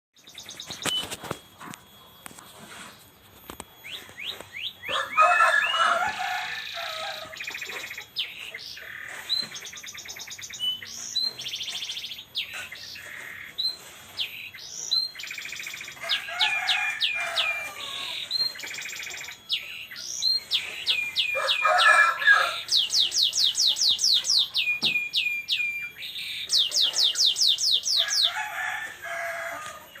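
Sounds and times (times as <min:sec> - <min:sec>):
canary singing: 0:00.2 - 0:30.0.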